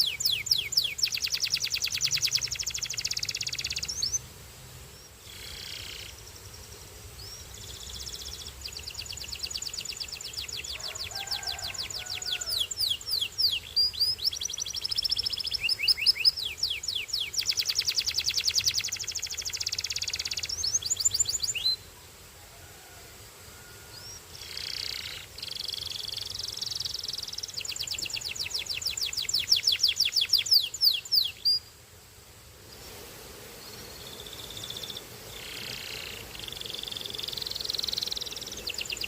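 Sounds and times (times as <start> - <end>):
canary singing trills: 0.0 - 4.2, 5.0 - 6.5, 7.2 - 21.8, 24.0 - 31.7, 33.6 - 39.0.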